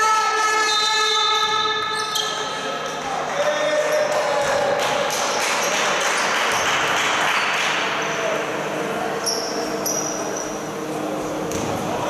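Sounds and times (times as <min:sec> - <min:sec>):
voices in a hall: 0:00.0 - 0:12.0
sneakers squeaking: 0:00.4 - 0:12.0.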